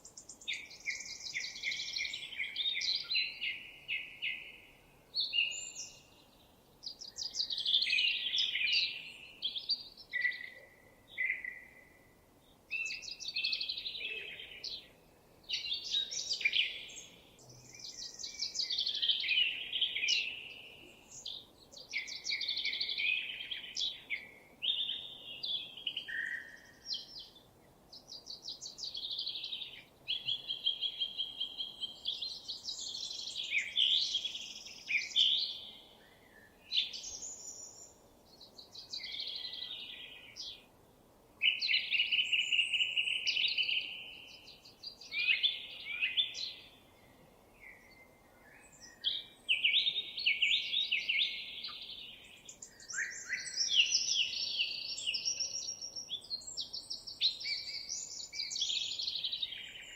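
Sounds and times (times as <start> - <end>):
songbird singing trills: 0.0 - 12.1, 12.7 - 40.7, 41.4 - 59.9.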